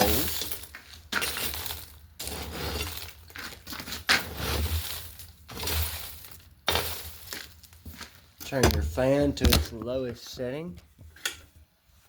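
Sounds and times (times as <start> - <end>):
coal raked crunching and scraping: 0.0 - 9.8.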